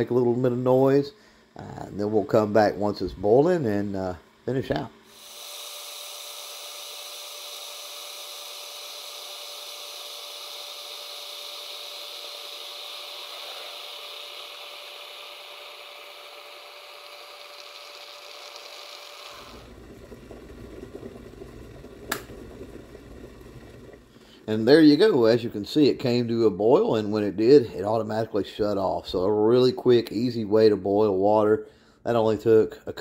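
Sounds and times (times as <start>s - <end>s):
kettle heating water hiss: 0.0s - 30.3s
water rolling boil: 0.0s - 33.0s.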